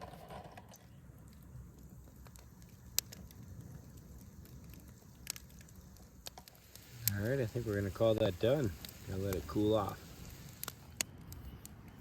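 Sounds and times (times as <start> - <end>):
campfire crackling: 0.0 - 12.0
fire popping: 0.0 - 12.0
low steady rustle: 0.0 - 12.0.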